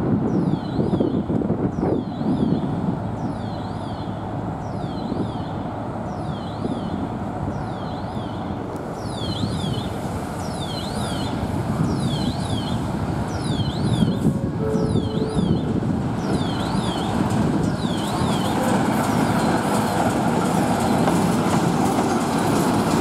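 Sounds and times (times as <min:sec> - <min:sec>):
train rumbling slowly: 0:00.0 - 0:23.0.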